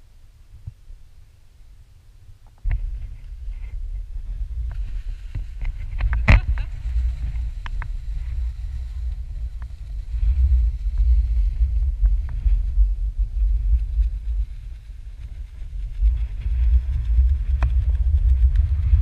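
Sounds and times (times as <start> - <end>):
wind buffeting microphone: 2.3 - 19.0.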